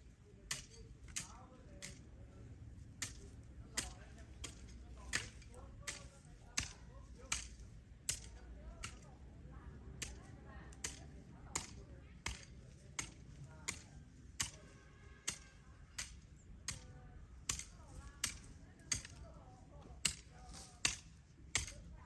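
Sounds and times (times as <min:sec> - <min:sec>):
hand tool chopping rhythmically: 0:00.5 - 0:02.0, 0:03.0 - 0:09.0, 0:10.0 - 0:14.6, 0:15.3 - 0:19.2, 0:20.0 - 0:21.8.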